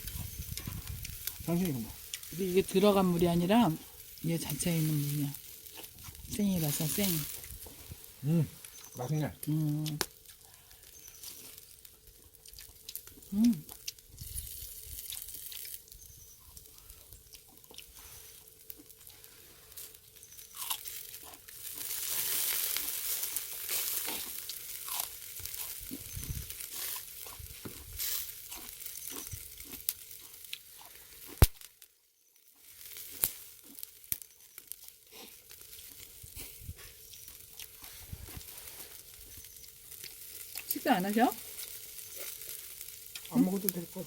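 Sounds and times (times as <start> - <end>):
crunching and chewing food: 0.0 - 44.0
pork sizzling over charcoal: 0.0 - 44.0.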